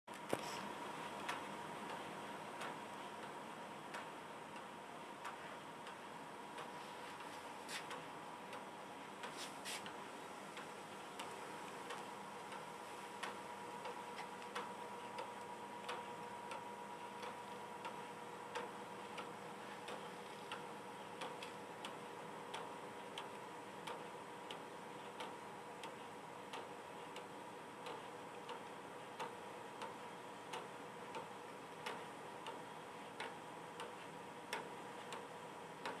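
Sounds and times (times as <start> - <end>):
faint steady hum: 0.1 - 36.0
pendulum clock ticking: 1.2 - 7.3, 10.6 - 36.0.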